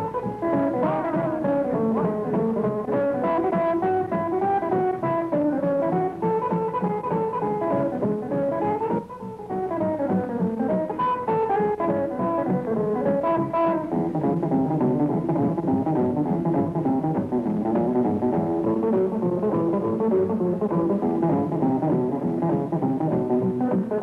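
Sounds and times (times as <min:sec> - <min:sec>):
string band playing: 0:00.0 - 0:24.0.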